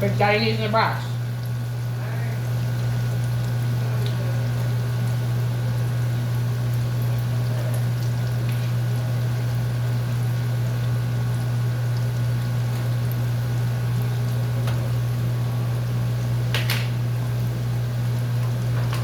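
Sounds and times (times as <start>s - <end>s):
batter frying in hot oil: 0.0s - 19.0s.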